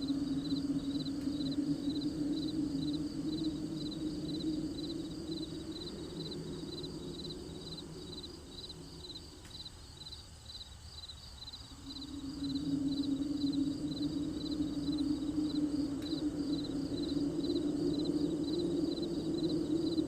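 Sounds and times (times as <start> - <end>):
cricket chirping: 0.0 - 20.0
low steady hum: 0.0 - 20.0.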